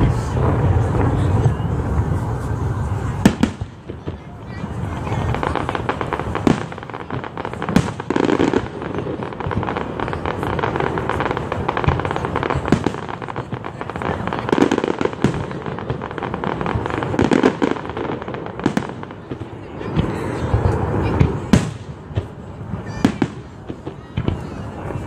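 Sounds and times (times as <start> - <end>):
fireworks bursting with crackles: 0.0 - 25.0.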